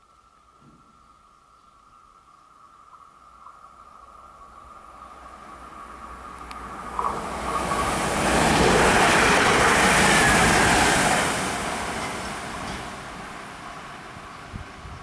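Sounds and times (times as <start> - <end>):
electric train passing at speed: 2.2 - 15.0.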